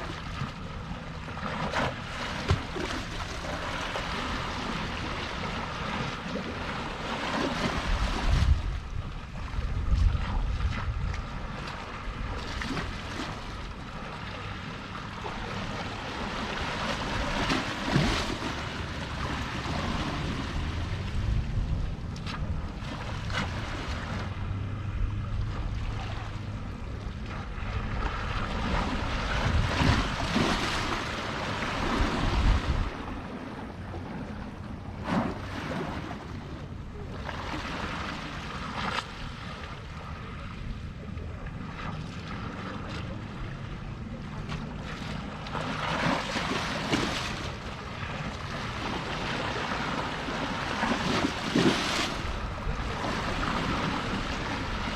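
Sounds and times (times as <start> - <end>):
sea waves lapping: 0.0 - 54.9
wind rumble on microphone: 0.0 - 54.9.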